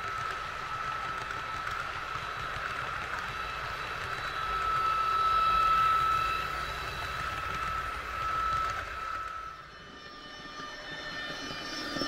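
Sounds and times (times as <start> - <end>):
model train running past: 0.0 - 12.0.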